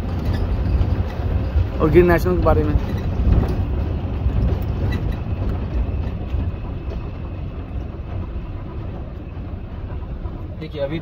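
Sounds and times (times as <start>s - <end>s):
vehicle engine and tyre rumble: 0.0s - 11.0s
vehicle knocks and rattles: 0.0s - 11.0s.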